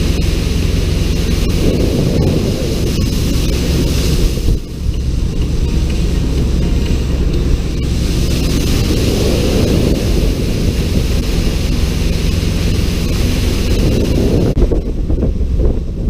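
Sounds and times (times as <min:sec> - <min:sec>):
boat engine drone: 0:00.0 - 0:16.0
rush of boat wake: 0:00.0 - 0:16.0
wind buffeting microphone: 0:00.0 - 0:16.0.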